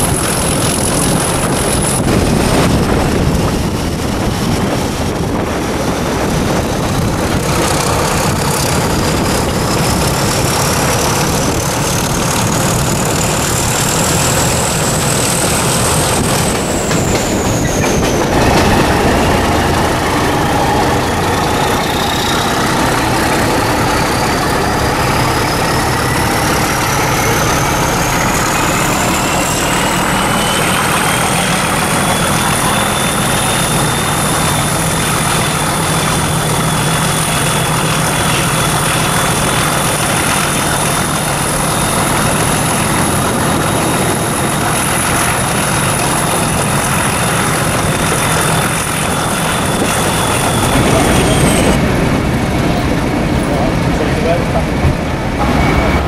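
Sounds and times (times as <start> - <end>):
diesel locomotive engine and wheels: 0.0 - 56.0.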